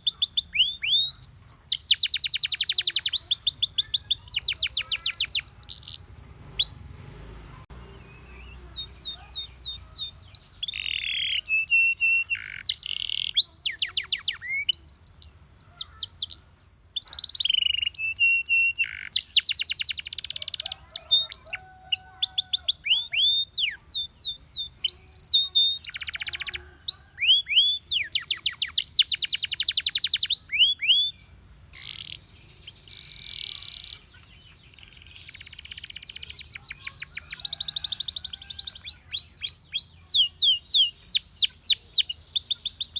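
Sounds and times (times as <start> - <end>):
canary singing: 0.0 - 42.9.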